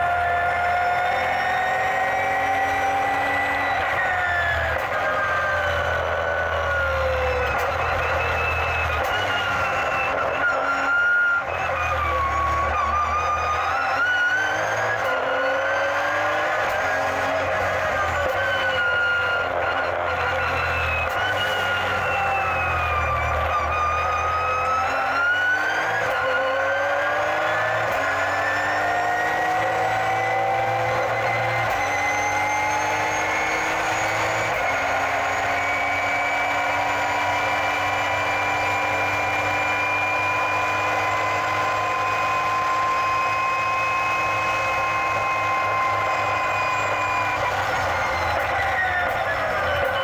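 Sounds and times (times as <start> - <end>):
race car engine accelerating: 0.0 - 50.0.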